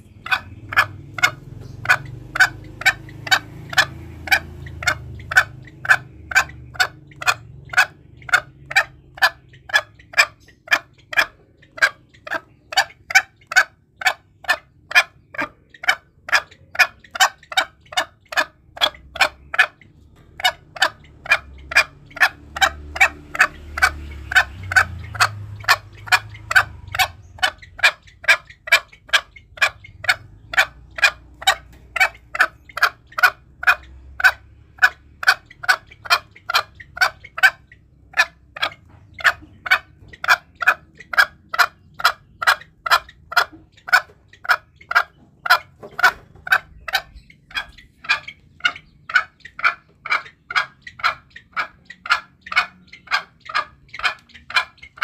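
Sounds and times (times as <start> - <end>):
junglefowl calling: 0.0 - 55.0.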